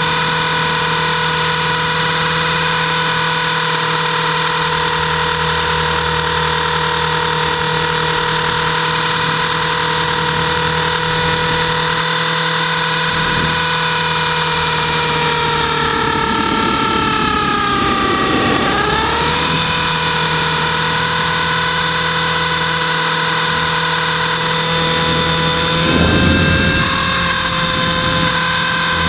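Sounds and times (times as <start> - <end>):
rc helicopter motor whine: 0.0 - 29.0.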